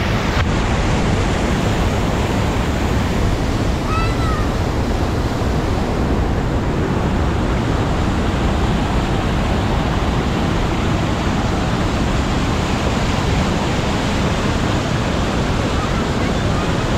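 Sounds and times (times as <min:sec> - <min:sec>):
waterfall and creek rushing: 0:00.0 - 0:16.9.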